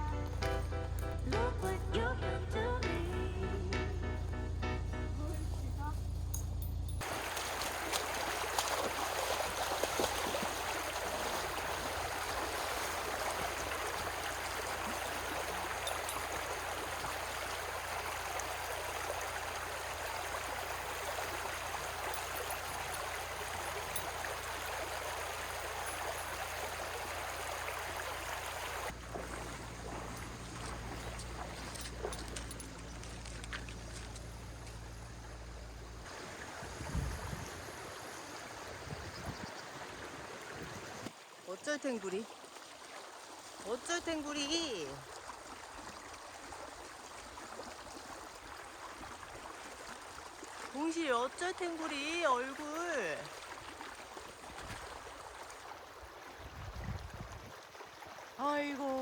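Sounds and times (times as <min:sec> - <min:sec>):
stream flowing: 0:07.0 - 0:59.0.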